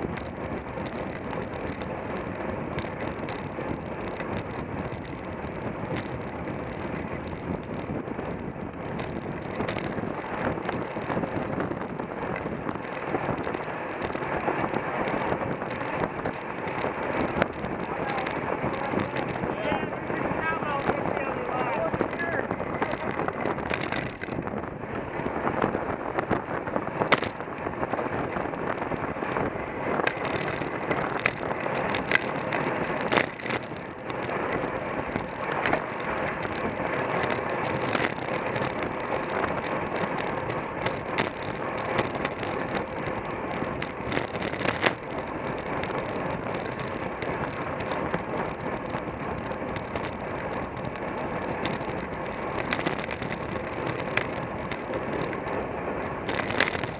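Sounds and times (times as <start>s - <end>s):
bicycle clicks and rattles: 0.0s - 56.9s
wind and tyre rushing: 0.0s - 56.9s.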